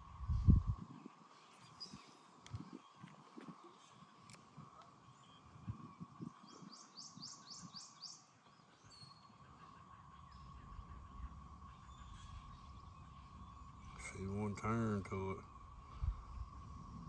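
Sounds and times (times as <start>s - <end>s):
faint steady high hum: 0.0s - 17.0s
bird chirping: 1.4s - 17.0s.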